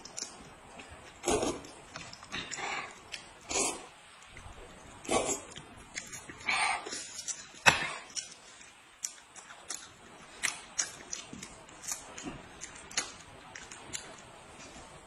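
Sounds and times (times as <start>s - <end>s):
shrimp shells crackling when peeled: 0.0s - 3.4s, 5.5s - 14.8s
chewing: 0.0s - 14.9s.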